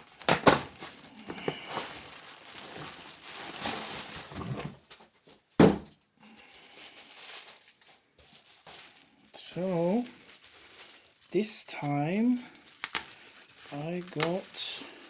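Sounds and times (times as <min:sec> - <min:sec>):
packaging rustling and crinkling: 0:00.0 - 0:05.6, 0:06.2 - 0:15.0.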